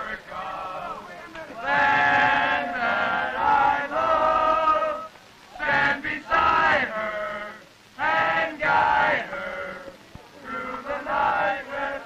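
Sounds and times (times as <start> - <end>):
boys chanting in unison: 0.0 - 12.0.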